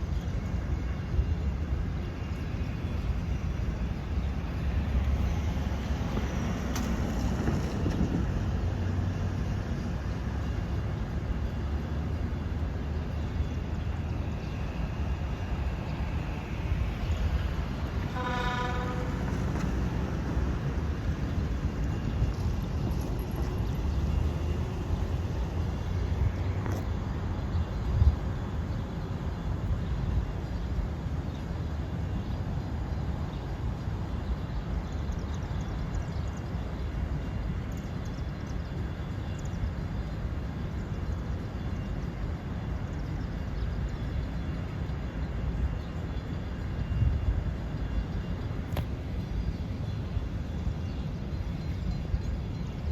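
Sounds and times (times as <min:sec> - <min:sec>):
low outdoor rumble: 0:00.0 - 0:52.9.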